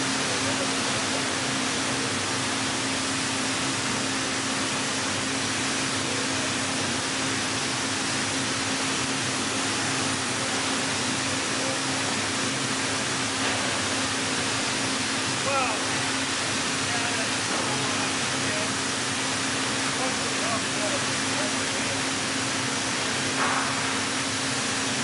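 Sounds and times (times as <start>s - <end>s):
constant machine hum: 0.0s - 25.0s.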